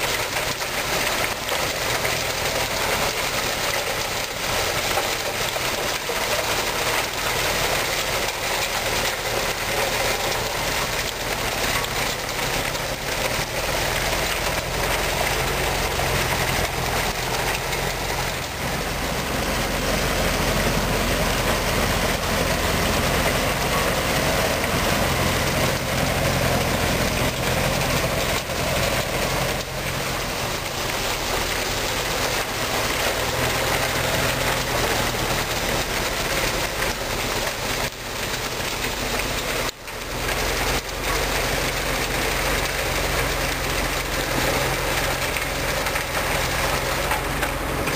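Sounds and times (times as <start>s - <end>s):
tractor engine drone: 0.0s - 47.9s.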